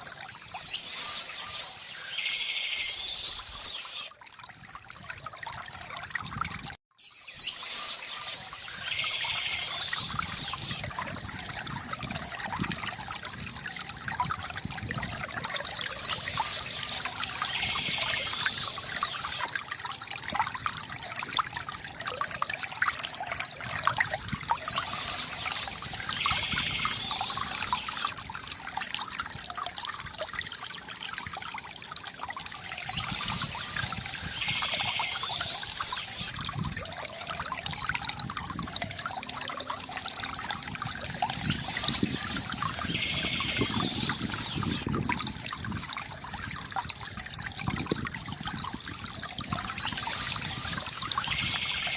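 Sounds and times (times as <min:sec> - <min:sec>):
stream trickling and gurgling: 0:00.0 - 0:51.9.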